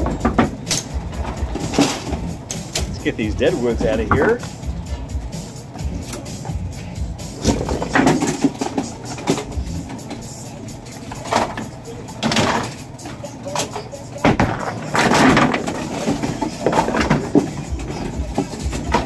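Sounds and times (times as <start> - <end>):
bowling pins clattering: 0.0 - 19.0.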